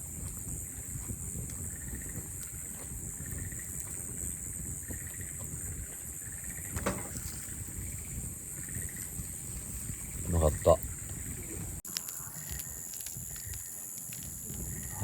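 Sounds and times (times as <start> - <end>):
campfire crackling: 0.0 - 15.0
high insect drone: 0.0 - 15.0
insects chirping: 0.0 - 15.0.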